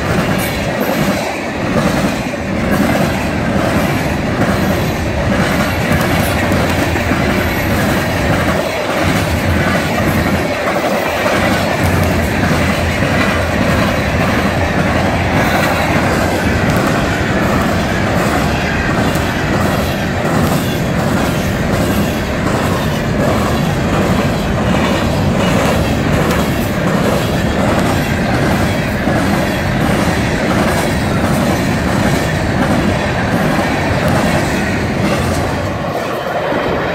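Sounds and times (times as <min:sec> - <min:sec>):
freight train wheels clacking: 0:00.0 - 0:36.9
train rumble: 0:00.0 - 0:36.9.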